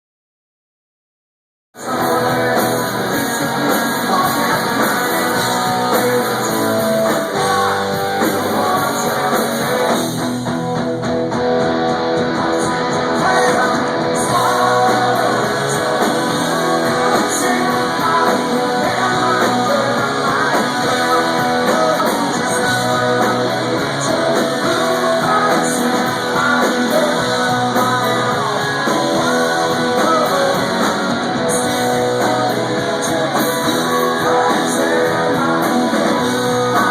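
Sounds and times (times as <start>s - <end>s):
person singing: 1.8s - 10.2s, 12.4s - 36.9s
live rock band playing: 1.8s - 36.9s.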